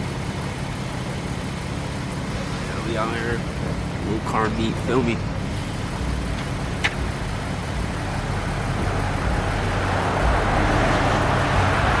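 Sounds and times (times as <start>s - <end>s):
car engines humming: 0.0s - 12.0s
rushing vehicle noise: 0.0s - 12.0s.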